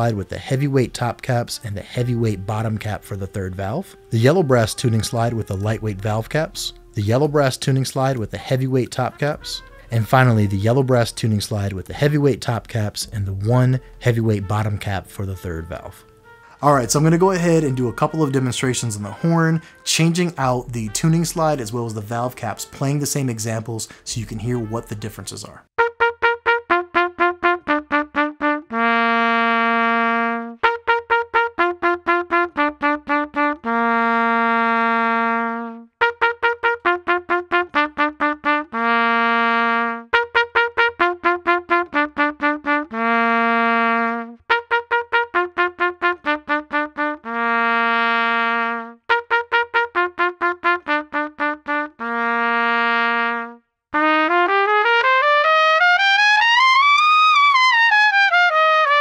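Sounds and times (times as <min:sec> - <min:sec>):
trumpet playing: 0:00.0 - 0:59.0.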